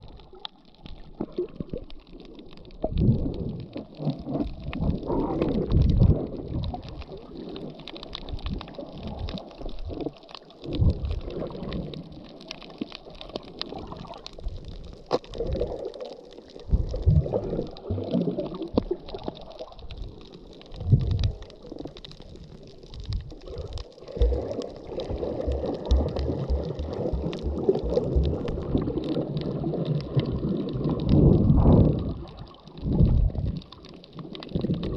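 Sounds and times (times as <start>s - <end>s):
underwater rumbling and sloshing: 0.0s - 34.9s.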